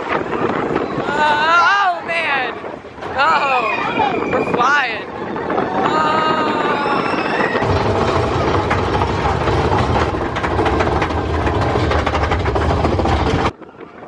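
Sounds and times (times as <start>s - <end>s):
roller coaster rumbling and rattling: 0.0s - 14.0s.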